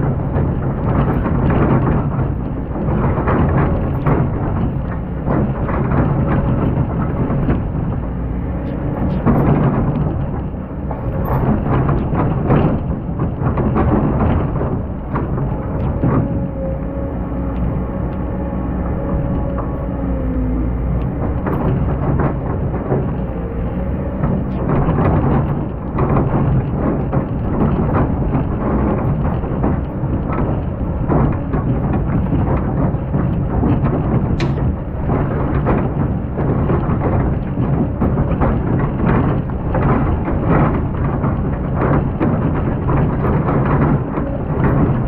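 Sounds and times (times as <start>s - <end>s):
excavator engine under load: 0.0s - 45.0s.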